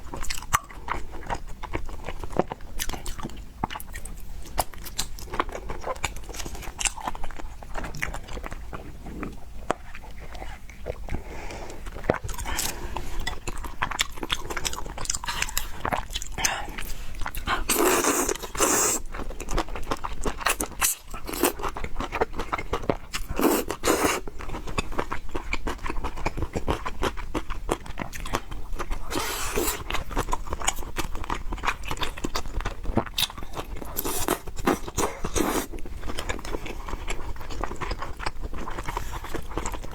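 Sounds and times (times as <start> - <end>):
chewing and biting noodles: 0.0 - 39.9.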